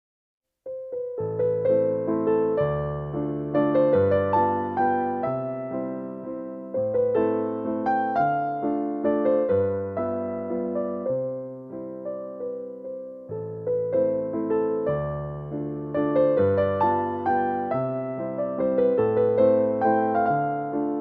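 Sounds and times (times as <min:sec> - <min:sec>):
gentle piano melody: 0:00.6 - 0:21.0.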